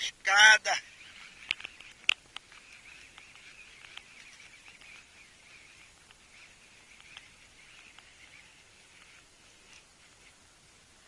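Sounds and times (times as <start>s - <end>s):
fishing reel whirring: 0.8s - 10.3s.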